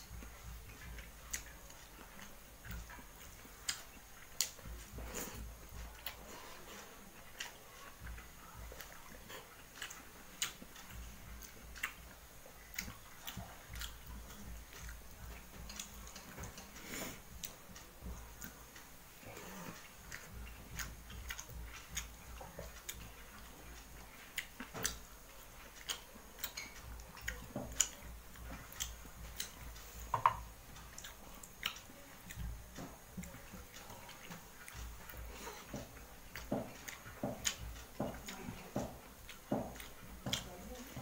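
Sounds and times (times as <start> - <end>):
person chewing: 0.0 - 41.0.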